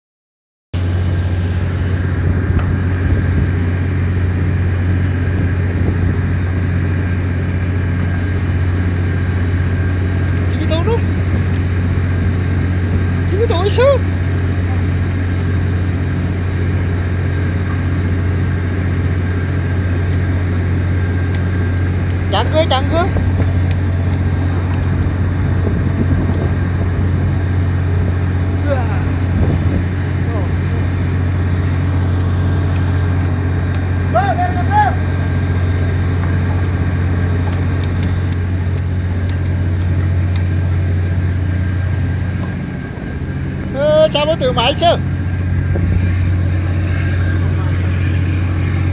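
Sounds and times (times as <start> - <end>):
engine running with low hum: 0.8 - 48.9.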